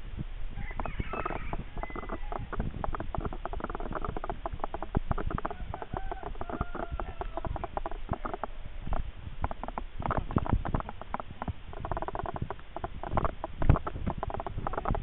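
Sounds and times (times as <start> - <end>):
bicycle rattling on rough road: 2.4 - 15.0.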